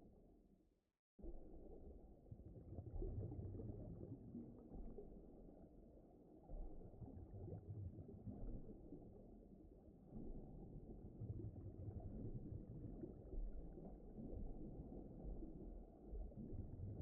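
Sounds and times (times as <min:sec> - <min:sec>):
deep water rumbling and gurgling: 0:01.2 - 0:17.0.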